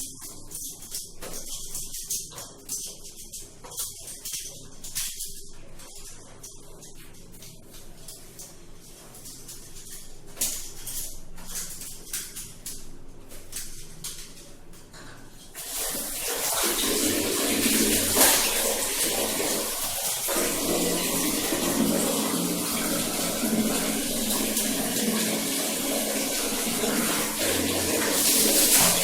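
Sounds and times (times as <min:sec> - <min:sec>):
water running: 0:00.0 - 0:29.0.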